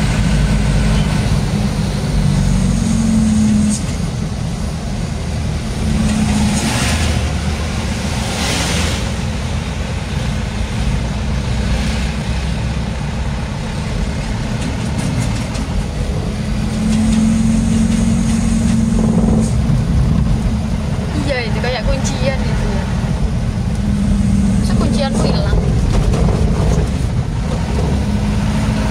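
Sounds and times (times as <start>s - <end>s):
steady drone: 0.0s - 28.9s
truck diesel engine rumbling: 0.0s - 28.9s.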